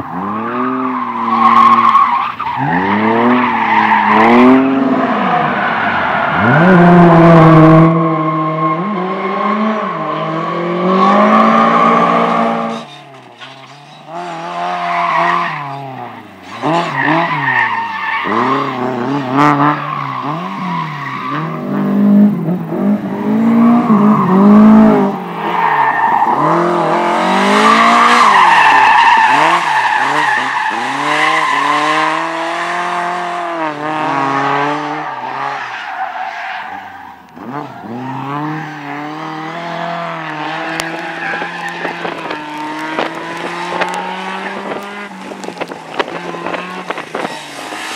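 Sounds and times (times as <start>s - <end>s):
car engine revving: 0.0s - 36.2s, 37.3s - 47.9s
tyres skidding and squealing: 0.0s - 47.9s.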